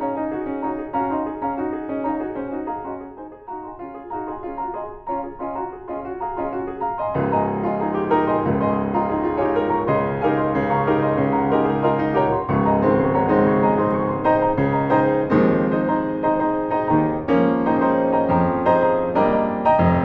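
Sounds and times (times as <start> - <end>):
solo piano piece: 0.0 - 20.0.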